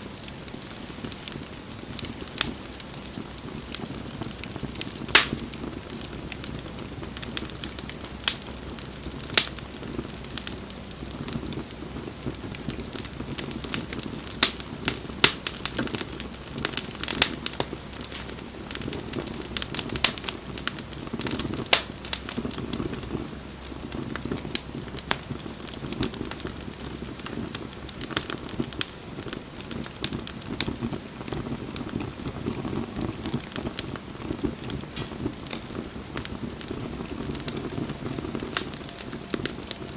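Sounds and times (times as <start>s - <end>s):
firewood crackling and popping: 0.0s - 39.9s
low rush of flames: 0.0s - 39.9s.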